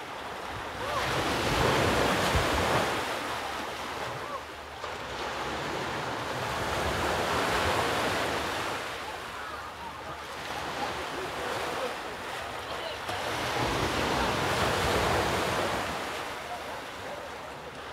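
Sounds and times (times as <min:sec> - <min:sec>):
sea surf on rocky shore: 0:00.0 - 0:17.9.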